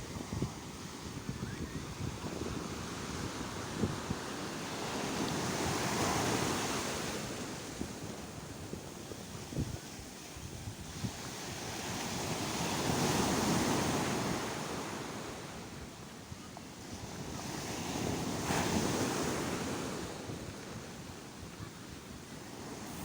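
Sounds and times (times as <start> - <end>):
wind on microphone: 0.0 - 16.0, 16.8 - 23.0
sea waves washing on shore: 0.0 - 23.0.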